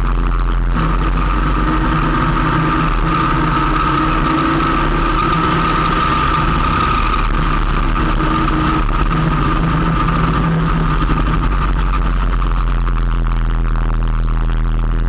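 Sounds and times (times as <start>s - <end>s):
high-pitched whine: 0.0s - 15.0s
motorcycle engine running: 0.0s - 15.0s.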